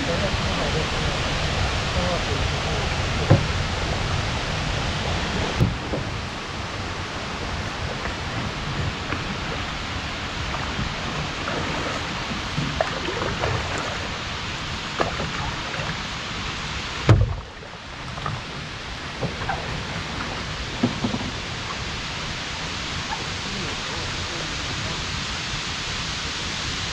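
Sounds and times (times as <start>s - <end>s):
paddle water splashes and drips: 0.0s - 26.9s
steady rushing water: 0.0s - 26.9s.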